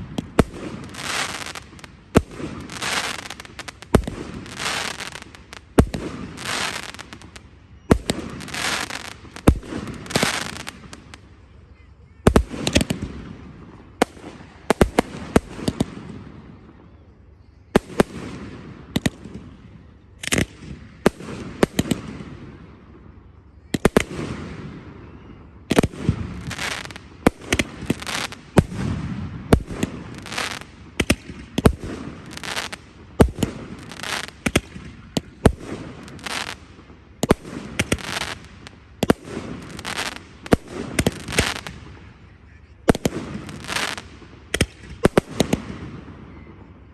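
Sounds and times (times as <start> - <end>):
fireworks crackle and rumble: 0.0 - 46.9.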